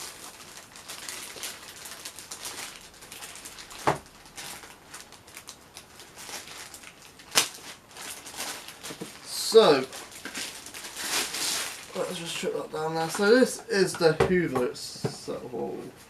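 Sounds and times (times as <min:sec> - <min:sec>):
packaging rustling and scraping: 0:00.0 - 0:13.9.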